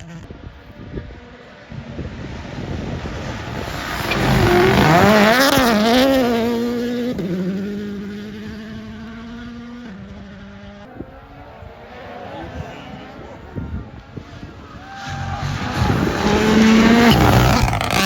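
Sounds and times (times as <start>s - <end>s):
rally car engine passing: 0.0s - 18.0s.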